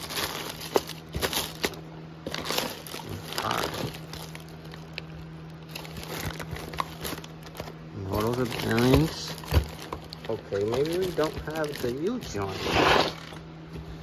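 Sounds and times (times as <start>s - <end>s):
plastic bags crinkling: 0.0s - 13.4s
steady low hum: 0.0s - 14.0s.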